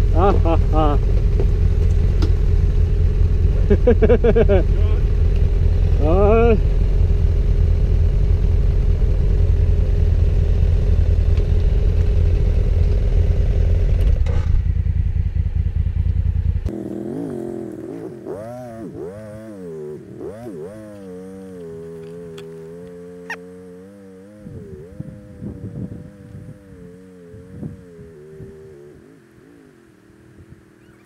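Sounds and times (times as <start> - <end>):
motorcycle engine and road noise: 0.0 - 31.0.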